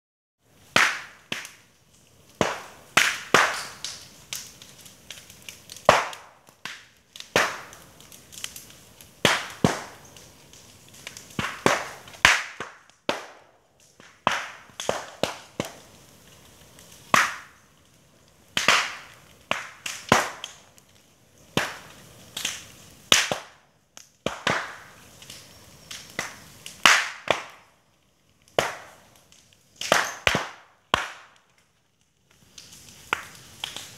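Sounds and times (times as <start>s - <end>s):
burning bamboo popping: 0.4s - 33.9s.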